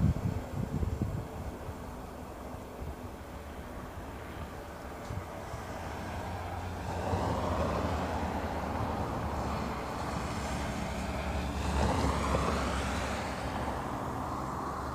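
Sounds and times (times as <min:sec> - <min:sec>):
road traffic passing: 0:00.0 - 0:14.9.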